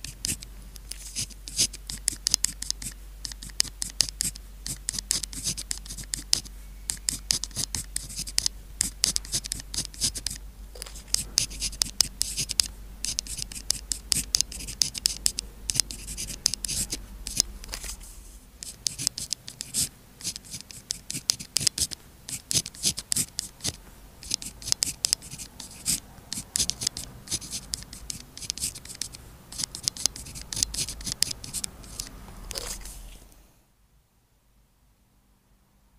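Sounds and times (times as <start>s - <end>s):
pen scratching on paper: 0.0s - 33.0s.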